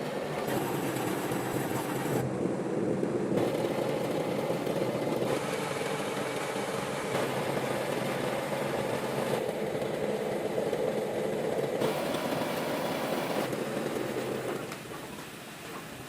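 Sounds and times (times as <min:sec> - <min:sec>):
machinery humming: 0:00.0 - 0:16.0.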